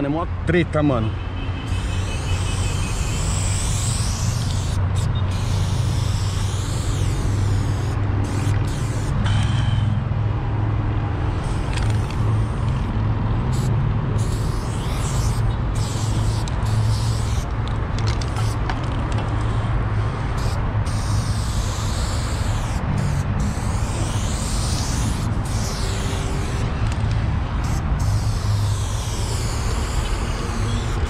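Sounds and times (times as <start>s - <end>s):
spray paint can hissing: 1.6s - 10.0s, 11.3s - 31.0s.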